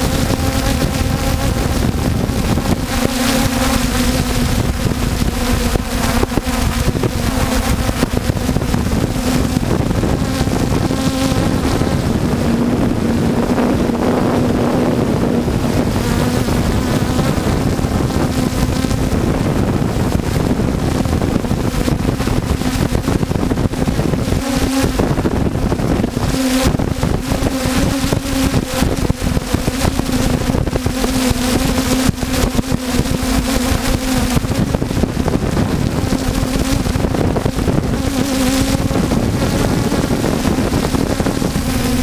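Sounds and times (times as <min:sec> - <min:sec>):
drone propellers buzzing: 0:00.0 - 0:42.0
wind rushing over microphone: 0:00.0 - 0:42.0.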